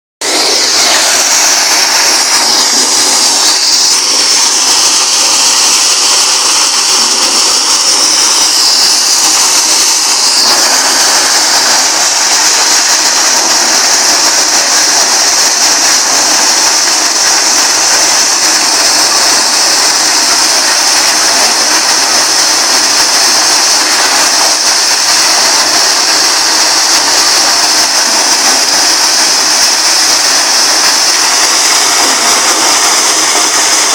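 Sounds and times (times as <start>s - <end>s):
maize sheller running: 0.2s - 33.9s.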